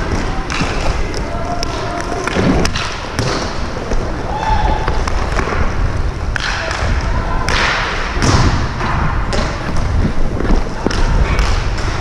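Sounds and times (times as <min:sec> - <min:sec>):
hockey sticks and puck clacking: 0:00.0 - 0:12.0
skates rumbling on ice: 0:00.0 - 0:12.0.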